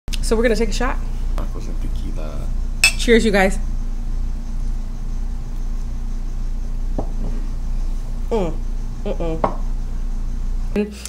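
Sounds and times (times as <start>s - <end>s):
low electrical hum: 0.1s - 11.0s.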